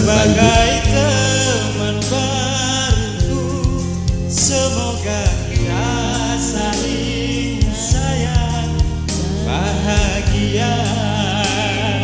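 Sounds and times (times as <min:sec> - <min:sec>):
amplified backing music: 0:00.0 - 0:12.0
man singing into a microphone: 0:00.0 - 0:12.0.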